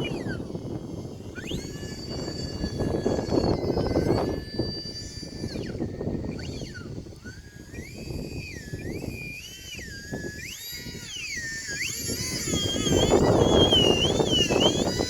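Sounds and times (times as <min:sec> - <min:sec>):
electric ducted fans whining: 0:00.0 - 0:15.0
wind rumbling on microphone: 0:00.0 - 0:15.0.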